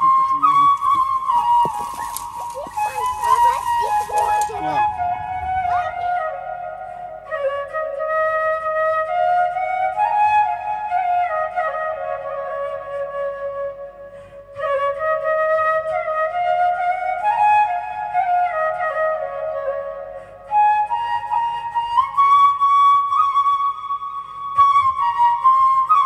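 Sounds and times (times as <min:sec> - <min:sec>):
flute playing a melody: 0:00.0 - 0:26.0.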